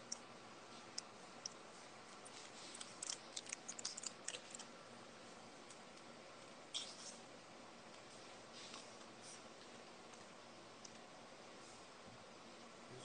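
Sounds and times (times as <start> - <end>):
quiet room hiss: 0.0 - 13.0.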